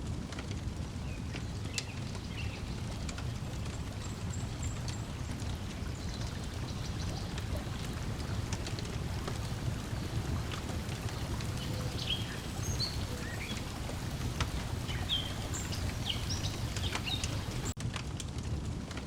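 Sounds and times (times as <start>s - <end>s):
wood fire crackling: 0.0s - 19.0s
small birds chirping: 1.0s - 17.8s
lake water lapping: 1.1s - 17.8s.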